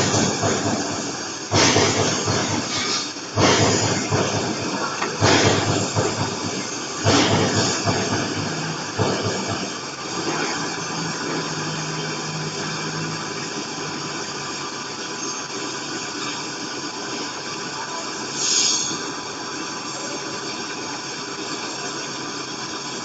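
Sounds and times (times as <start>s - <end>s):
welding arc hissing: 0.0s - 23.0s.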